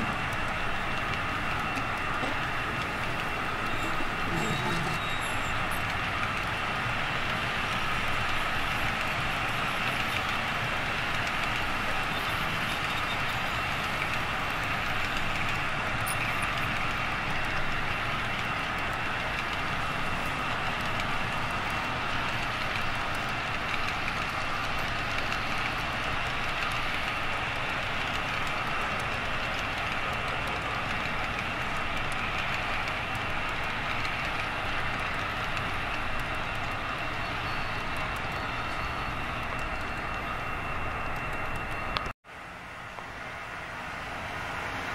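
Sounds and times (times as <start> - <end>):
model train running: 0.0 - 44.9.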